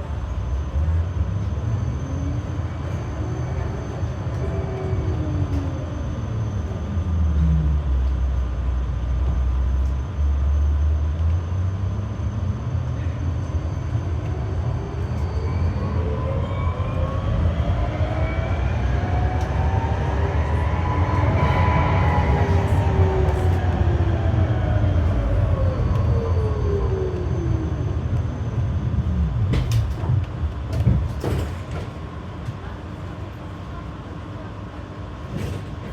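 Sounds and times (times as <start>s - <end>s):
tram rumble and drive whine: 0.0s - 35.9s.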